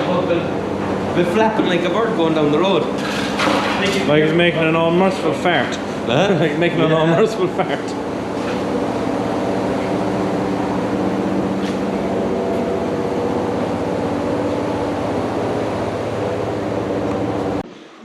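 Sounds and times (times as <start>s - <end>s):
motor humming: 0.3s - 17.6s.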